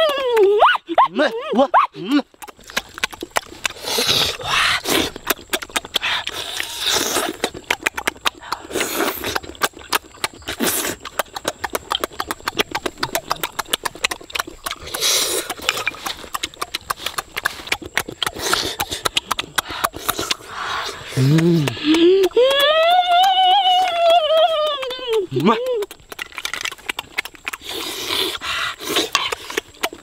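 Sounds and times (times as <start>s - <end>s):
person chewing and mouth-smacking: 0.0s - 30.0s
person slurping: 2.0s - 22.6s, 24.8s - 30.0s.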